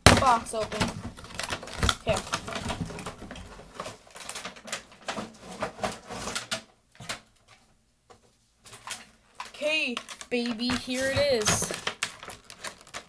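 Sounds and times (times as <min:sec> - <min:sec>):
cardboard and plastic crackling: 0:00.0 - 0:13.0.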